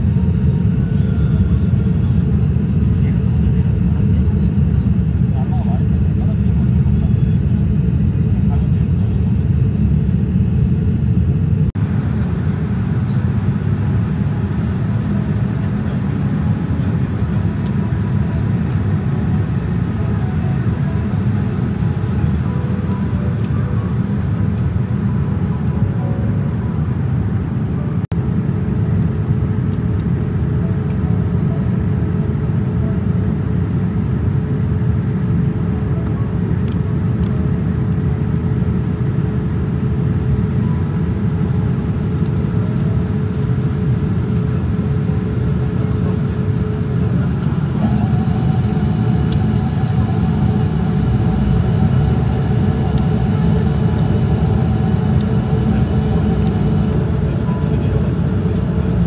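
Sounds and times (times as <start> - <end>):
aircraft cabin engine rumble: 0.0 - 59.0
faint higher hum: 0.0 - 59.0.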